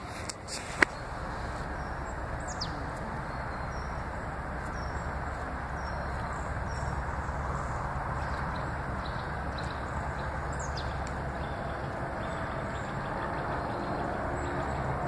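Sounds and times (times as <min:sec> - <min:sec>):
low rushing noise: 0:00.0 - 0:15.0
faint bird chirps: 0:00.5 - 0:14.9.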